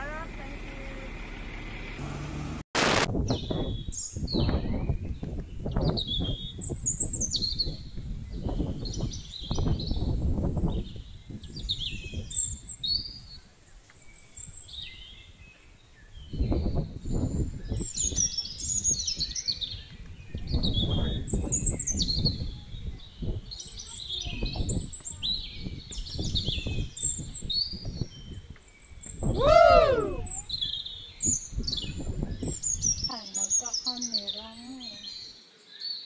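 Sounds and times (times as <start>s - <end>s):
birds chirping and singing: 3.3s - 36.0s.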